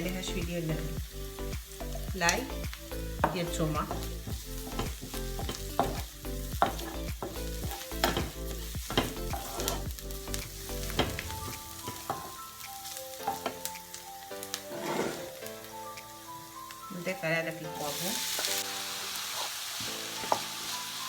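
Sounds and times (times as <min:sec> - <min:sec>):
onion and garlic sizzling in oil: 0:00.0 - 0:21.0.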